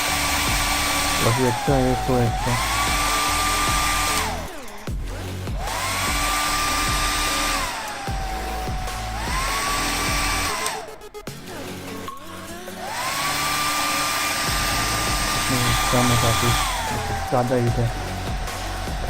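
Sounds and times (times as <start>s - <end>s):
hair dryer blowing: 0.0s - 11.0s, 12.8s - 19.0s.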